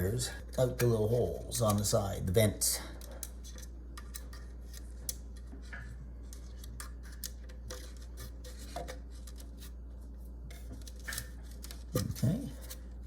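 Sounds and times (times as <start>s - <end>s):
steady low hum: 0.0s - 13.0s
wires clicking and rubbing: 0.0s - 13.0s.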